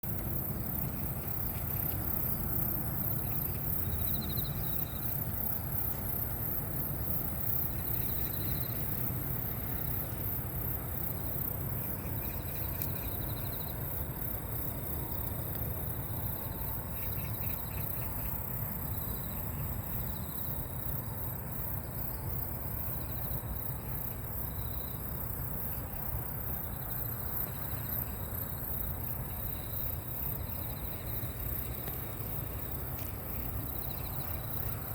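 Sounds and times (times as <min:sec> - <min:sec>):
insects chirping in trills: 0:00.0 - 0:34.9.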